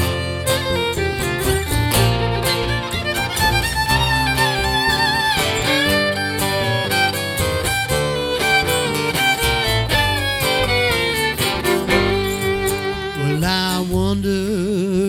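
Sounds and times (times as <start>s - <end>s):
fiddle melody: 0.0s - 14.4s
bass line: 0.0s - 15.0s
strummed acoustic guitar: 0.0s - 15.0s.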